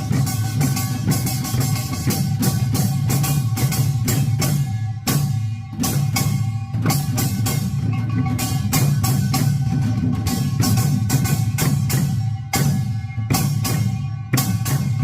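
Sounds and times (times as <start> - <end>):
barrel drums beating: 0.0 - 15.0.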